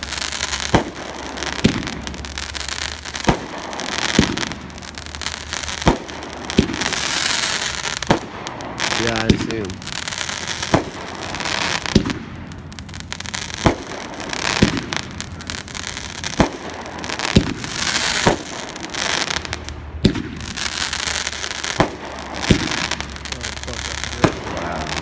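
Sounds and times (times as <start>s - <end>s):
firework bangs: 0.0s - 25.0s
firework shells hissing: 0.0s - 25.0s.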